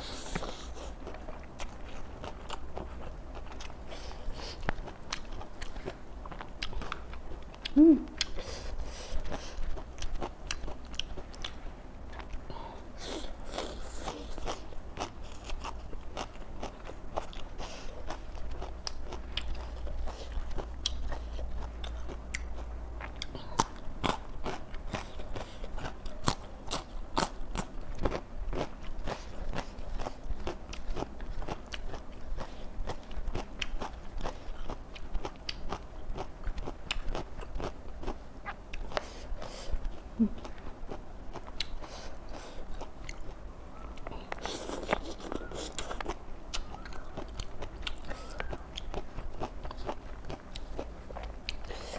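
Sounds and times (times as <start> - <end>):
crunching raw vegetables: 0.0 - 51.9.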